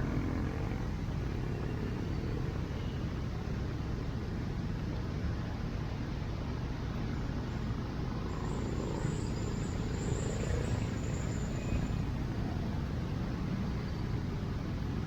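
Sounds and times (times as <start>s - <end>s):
faint high whine: 0.0s - 6.0s, 6.9s - 15.0s
road traffic on wet street: 0.0s - 15.0s.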